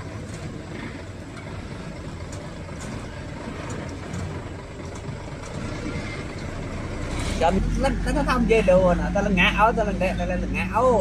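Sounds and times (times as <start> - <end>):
truck diesel engine droning: 0.0 - 11.0.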